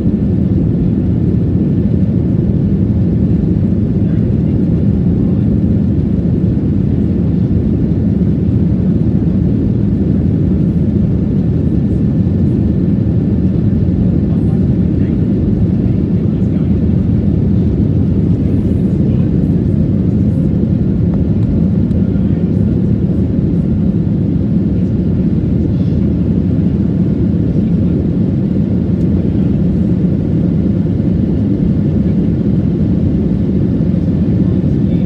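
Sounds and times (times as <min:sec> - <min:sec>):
airplane cabin engine roar: 0:00.0 - 0:35.0.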